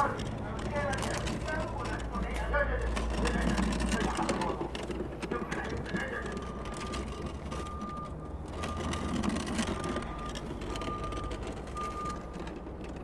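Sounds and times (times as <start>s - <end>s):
low mechanical rumble: 0.0s - 13.0s
wooden chest dragged on asphalt: 0.0s - 13.0s.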